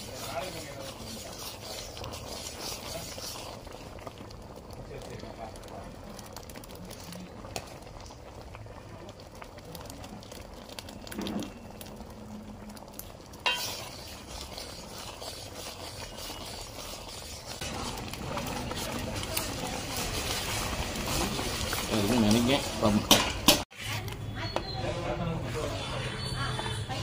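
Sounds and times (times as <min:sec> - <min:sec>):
liquid bubbling: 0:00.0 - 0:23.5
metal ladle stirring a pan: 0:00.0 - 0:24.8.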